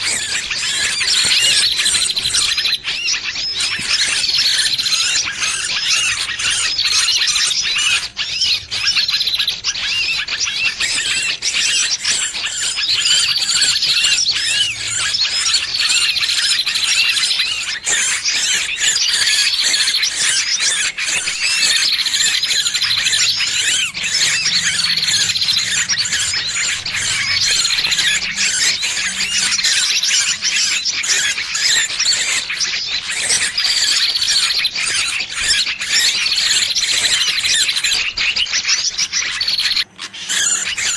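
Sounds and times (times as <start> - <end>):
bird distress squeals and chirps: 0.0 - 40.9.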